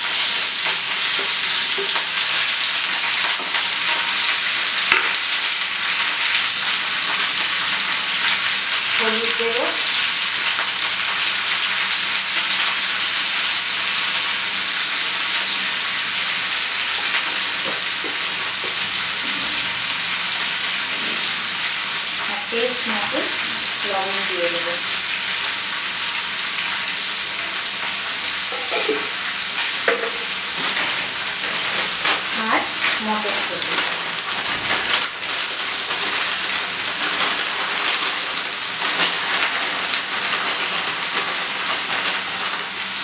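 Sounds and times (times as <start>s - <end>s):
vegetables sizzling in hot oil: 0.0s - 43.0s.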